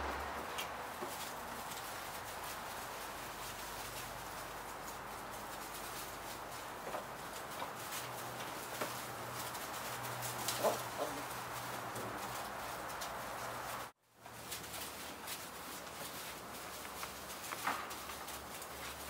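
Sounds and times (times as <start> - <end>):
rustle of wood shavings: 0.0 - 19.0.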